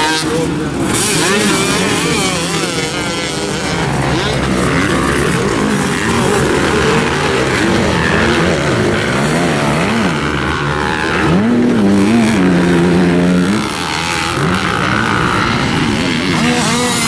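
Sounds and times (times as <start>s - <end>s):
dirt bike engines racing: 0.0s - 17.0s.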